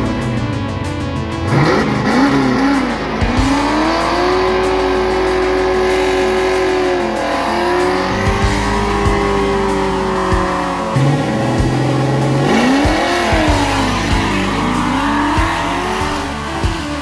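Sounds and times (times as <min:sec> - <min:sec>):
background music: 0:00.0 - 0:17.0
car engine revving: 0:00.0 - 0:17.0
sharp exhaust pops: 0:00.0 - 0:17.0.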